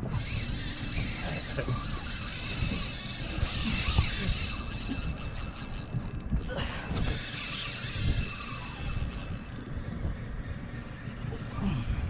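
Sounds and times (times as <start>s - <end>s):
spinning reel cranking: 0.0s - 9.8s.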